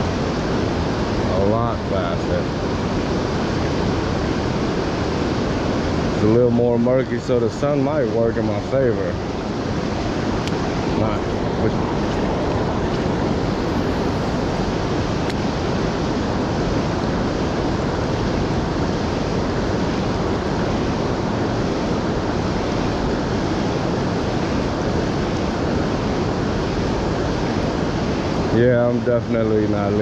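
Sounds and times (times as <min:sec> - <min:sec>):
fast-flowing river water rushing: 0:00.0 - 0:29.9.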